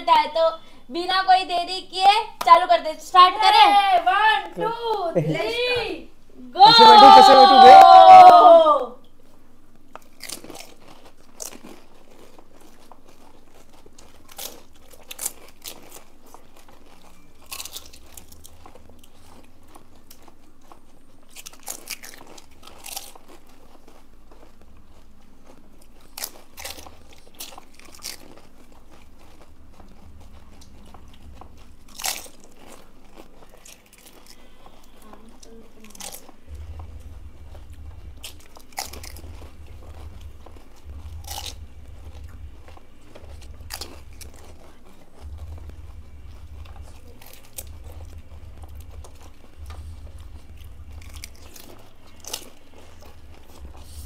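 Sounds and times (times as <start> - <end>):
crisp shells crunching as people chew: 9.0 - 54.0.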